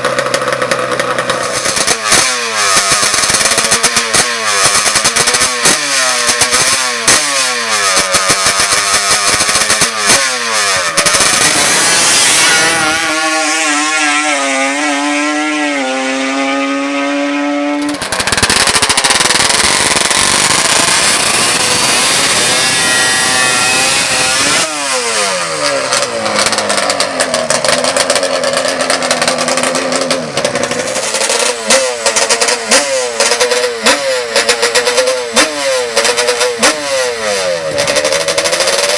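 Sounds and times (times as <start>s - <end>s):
atv engines revving: 0.0s - 38.9s.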